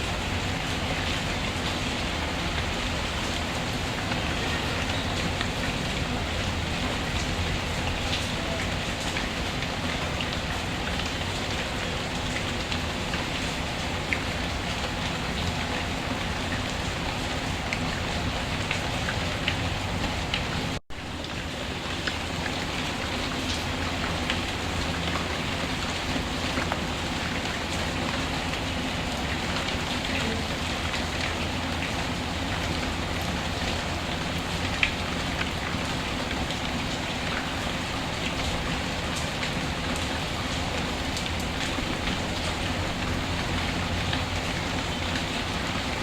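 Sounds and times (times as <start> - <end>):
steady rain falling: 0.0 - 46.0
ticks of raindrops: 0.0 - 46.0.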